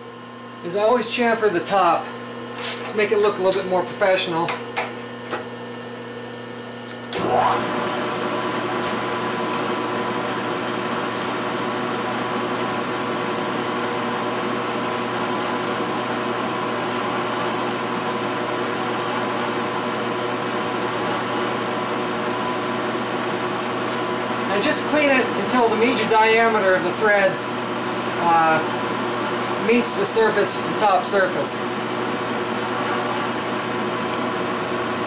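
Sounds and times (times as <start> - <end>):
drill press motor humming: 6.8 - 35.0.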